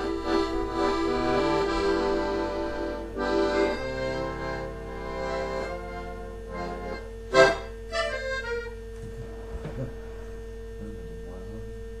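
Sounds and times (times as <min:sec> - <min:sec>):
button accordion chords: 0:00.0 - 0:10.0.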